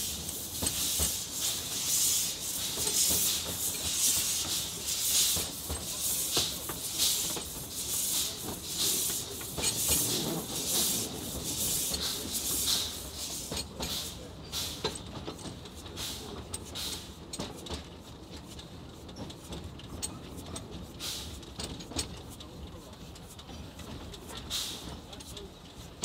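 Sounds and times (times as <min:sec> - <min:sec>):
steam locomotive hissing beats: 0:00.0 - 0:26.0.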